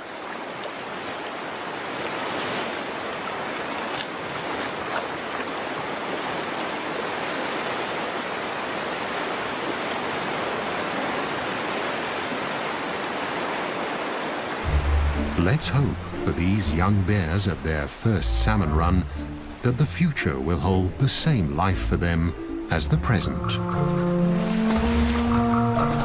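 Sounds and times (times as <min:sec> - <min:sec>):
rushing stream water: 0:00.0 - 0:26.0.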